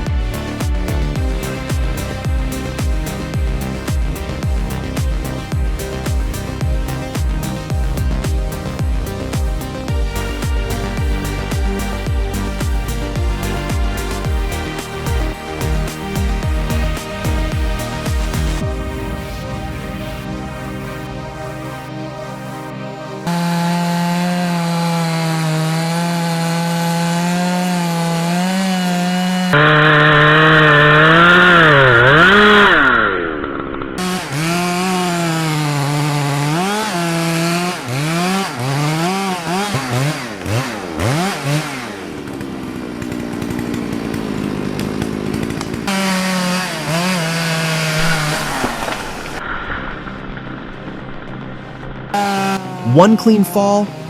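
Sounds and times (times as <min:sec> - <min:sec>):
chainsaw cutting wood: 0:00.0 - 0:19.8, 0:23.2 - 0:49.4, 0:52.1 - 0:53.0.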